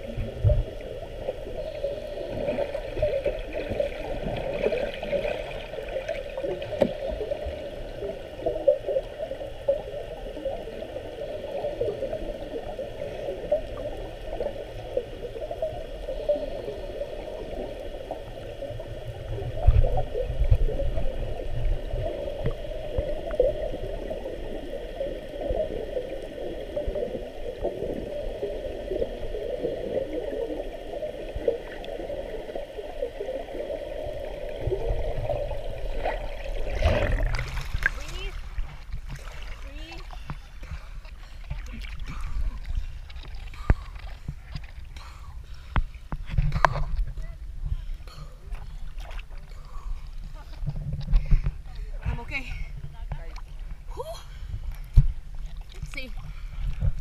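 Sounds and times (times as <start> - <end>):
low underwater rumble: 0.0 - 57.0
muffled underwater water noise: 0.0 - 57.0.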